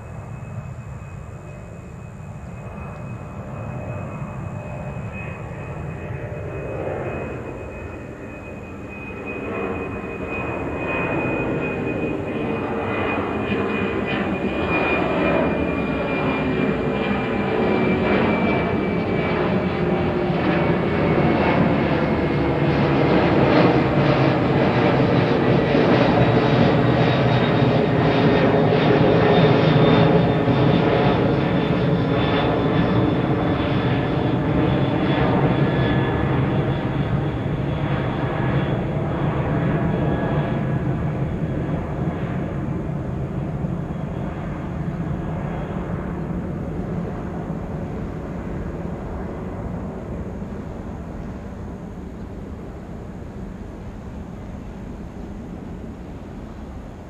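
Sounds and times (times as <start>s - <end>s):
high jet engine whine: 0.0s - 57.0s
jet airliner passing overhead: 0.0s - 57.0s.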